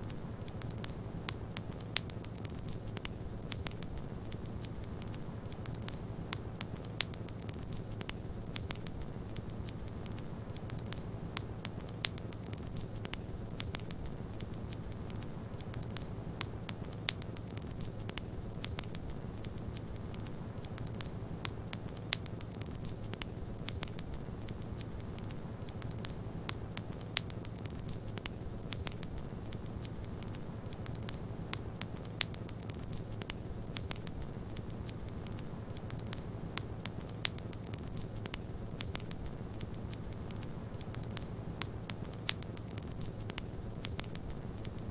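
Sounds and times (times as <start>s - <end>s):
sharp fire pops: 0.0s - 44.9s
wood fire crackling: 0.0s - 44.9s.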